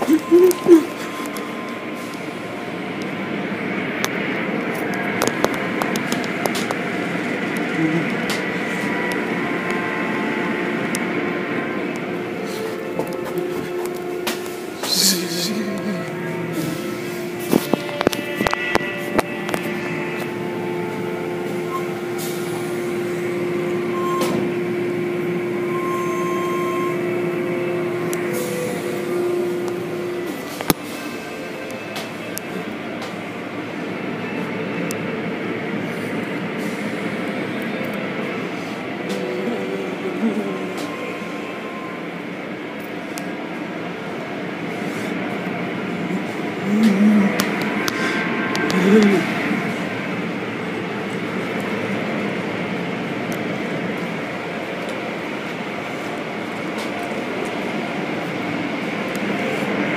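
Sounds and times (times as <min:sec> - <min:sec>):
machine hum: 0:00.0 - 0:59.9.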